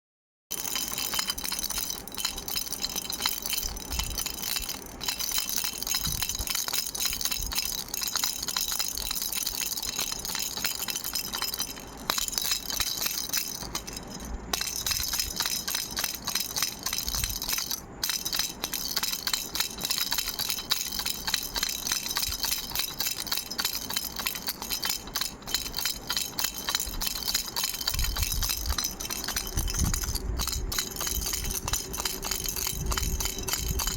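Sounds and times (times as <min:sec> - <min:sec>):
baby rattle shaken: 0:00.5 - 0:33.9.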